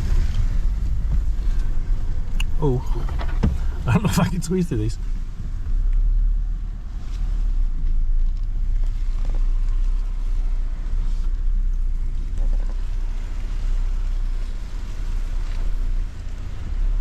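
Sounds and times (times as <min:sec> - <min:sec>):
engine and drivetrain rumble: 0:00.0 - 0:17.0.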